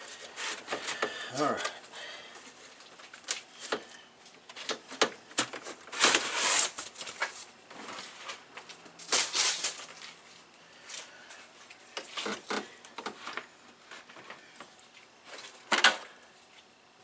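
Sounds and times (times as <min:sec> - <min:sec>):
scraping rustles: 0:00.0 - 0:15.7.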